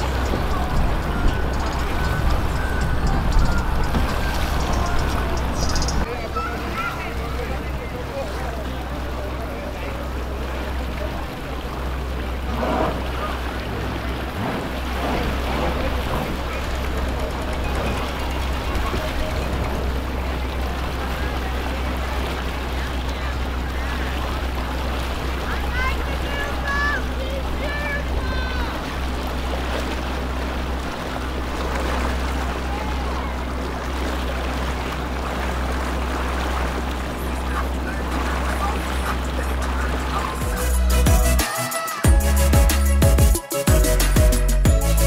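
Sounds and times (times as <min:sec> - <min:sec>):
boat engines rumbling: 0:00.0 - 0:45.0
faint voices talking: 0:00.0 - 0:45.0
water noise: 0:00.0 - 0:45.0.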